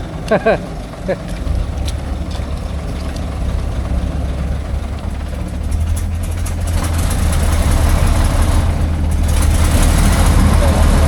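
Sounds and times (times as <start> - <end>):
truck engine under load: 0.0 - 11.0.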